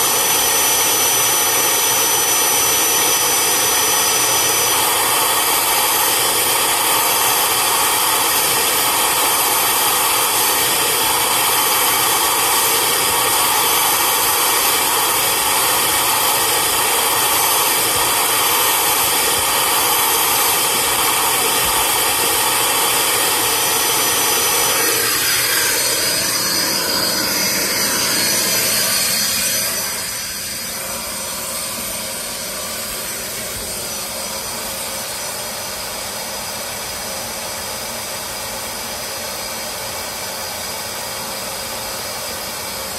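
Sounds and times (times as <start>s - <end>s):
vacuum motor whining: 0.0s - 37.0s.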